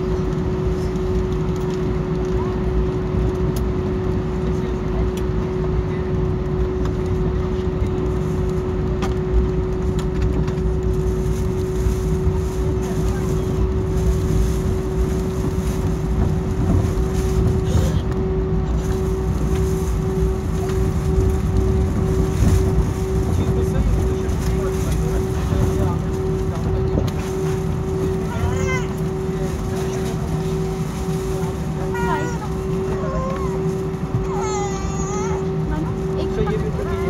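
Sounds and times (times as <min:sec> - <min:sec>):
jet engine and airflow rumble: 0:00.0 - 0:37.0.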